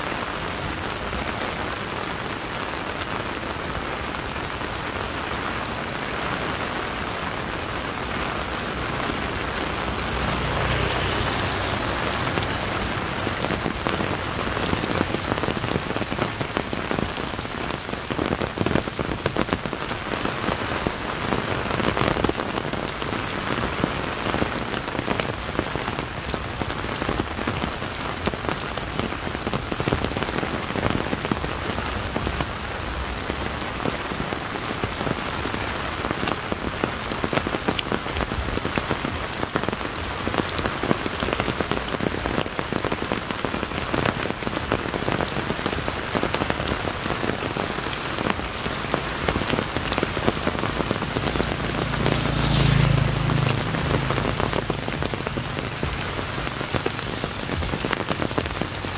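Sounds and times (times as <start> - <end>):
steady rain: 0.0 - 58.9
raindrops ticking: 1.3 - 35.3, 36.0 - 58.9.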